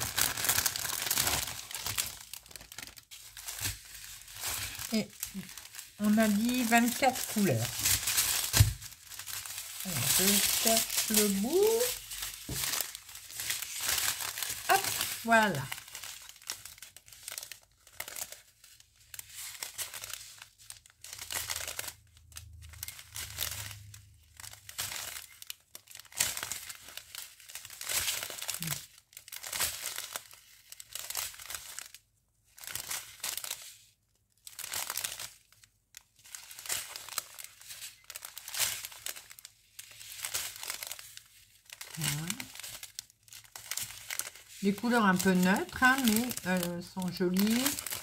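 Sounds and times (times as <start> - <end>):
plastic bags crinkling: 0.0 - 48.0.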